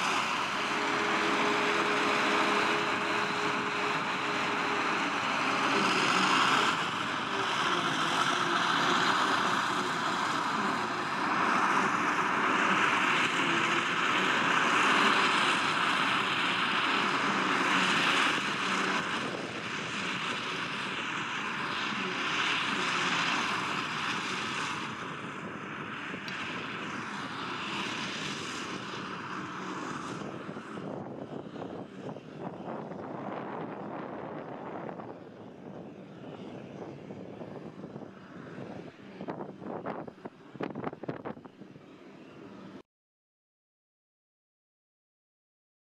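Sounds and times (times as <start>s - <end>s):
forage harvester droning: 0.0s - 42.8s
tractor hauling trailer: 0.0s - 42.8s.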